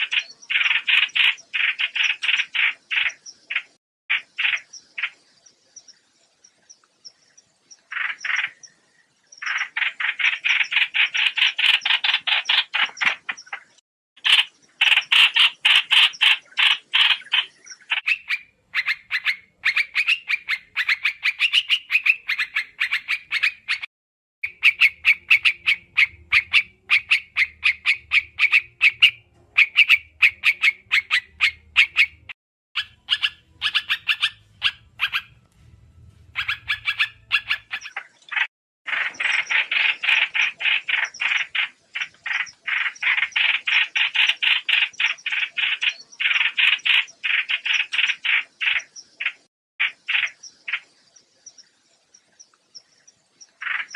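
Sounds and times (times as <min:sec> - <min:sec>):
bird rapid chattering call: 0:00.0 - 0:05.2, 0:07.8 - 0:08.8, 0:09.4 - 0:35.4, 0:36.3 - 0:51.0, 0:53.4 - 0:53.9.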